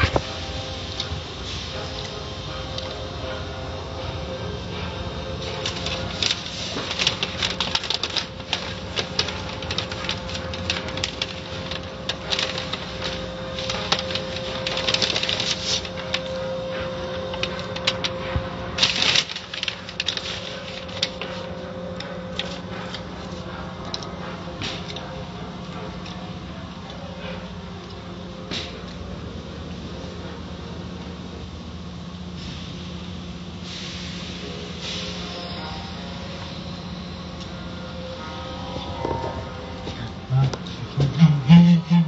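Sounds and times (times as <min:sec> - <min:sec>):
machinery hum: 0:00.0 - 0:42.0.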